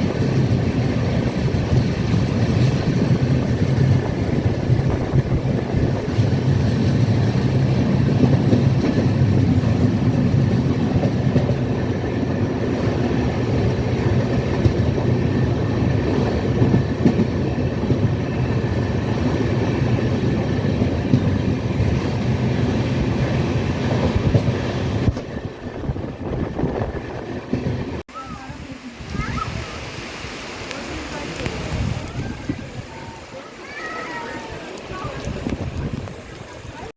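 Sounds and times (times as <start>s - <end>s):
train wheels rumbling on rails: 0.0s - 28.6s, 30.7s - 36.9s.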